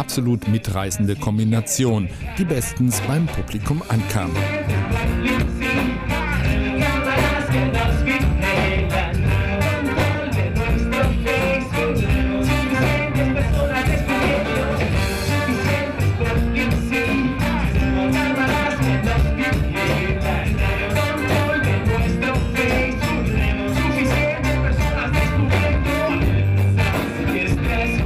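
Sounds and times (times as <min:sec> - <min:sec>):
live band playing latin music: 0:00.0 - 0:28.0
person singing: 0:00.0 - 0:28.0.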